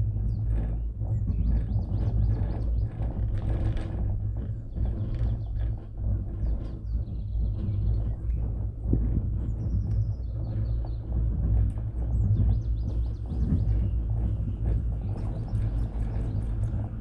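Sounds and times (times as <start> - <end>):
cable car rumbling: 0.0 - 17.0.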